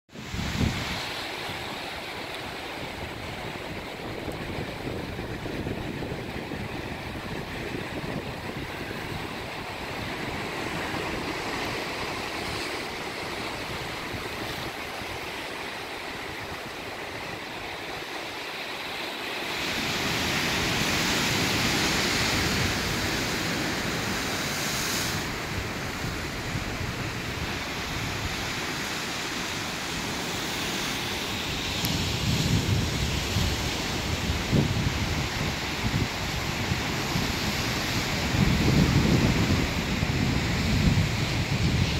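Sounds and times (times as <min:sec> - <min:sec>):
wind buffeting microphone: 0:00.1 - 0:18.0, 0:19.6 - 0:30.3, 0:31.3 - 0:41.9.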